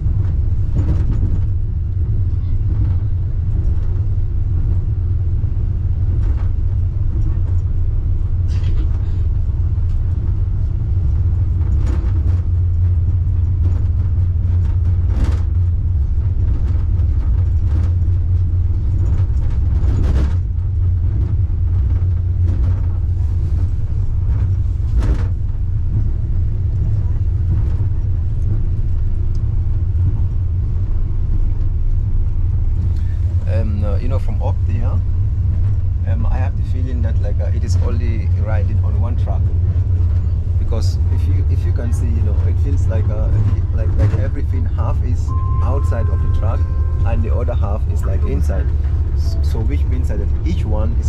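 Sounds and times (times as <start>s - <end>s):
suspension railway car rumbling: 0.0s - 51.0s.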